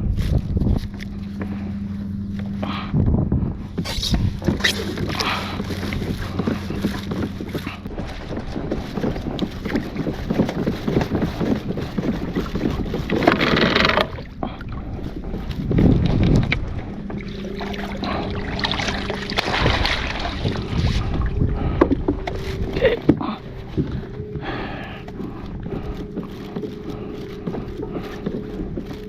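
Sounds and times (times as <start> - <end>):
wind buffeting microphone: 0.0 - 29.0
water splashing around kayak: 3.6 - 29.0.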